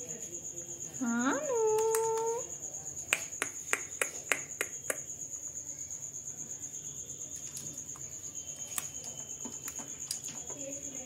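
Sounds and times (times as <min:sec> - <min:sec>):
cricket chirring: 0:00.0 - 0:11.0.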